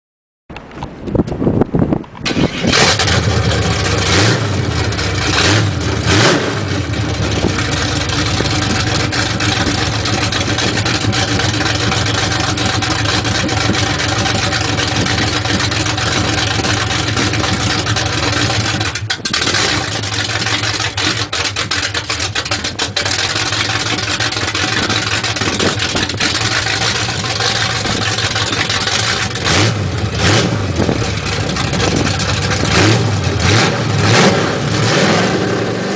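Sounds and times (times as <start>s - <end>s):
car engine exhaust idling and revving: 2.2s - 35.9s.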